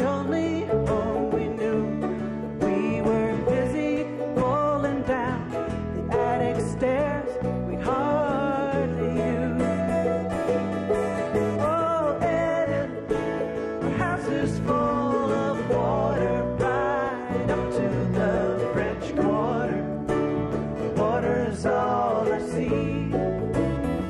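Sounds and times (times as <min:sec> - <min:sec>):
acoustic guitars: 0:00.0 - 0:24.0
person singing: 0:00.0 - 0:24.0.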